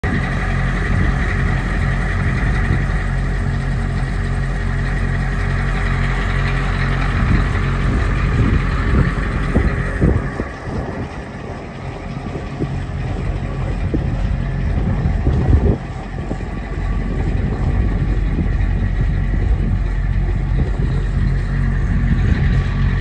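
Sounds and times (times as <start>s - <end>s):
bus engine idling: 0.0s - 23.0s.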